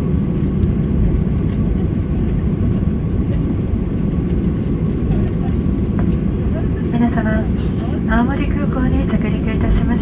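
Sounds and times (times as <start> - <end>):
airplane cabin low rumble: 0.0 - 10.0.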